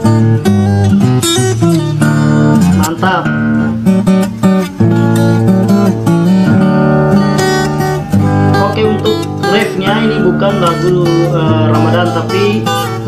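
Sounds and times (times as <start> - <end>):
fingerstyle acoustic guitar: 0.0 - 13.0.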